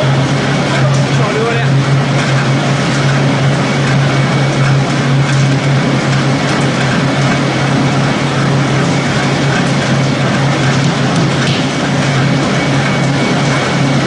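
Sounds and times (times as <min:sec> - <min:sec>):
pellet machine running: 0:00.0 - 0:14.0.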